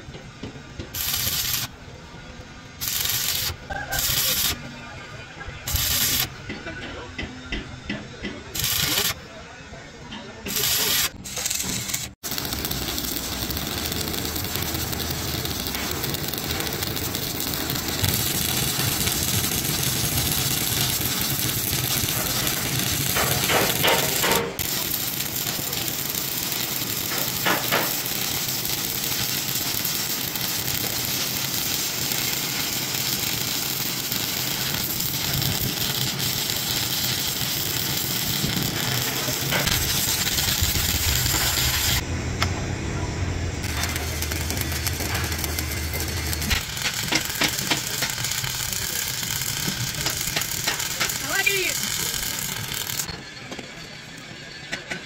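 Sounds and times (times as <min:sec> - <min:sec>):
welding arc crackling hiss: 0:00.0 - 0:04.7, 0:05.6 - 0:07.1, 0:08.4 - 0:09.4, 0:10.4 - 0:53.2.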